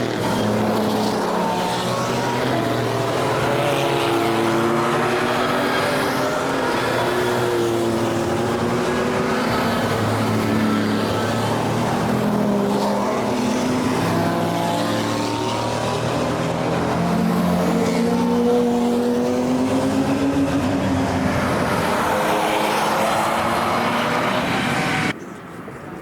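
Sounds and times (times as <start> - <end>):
race cars passing at speed: 0.0 - 25.2.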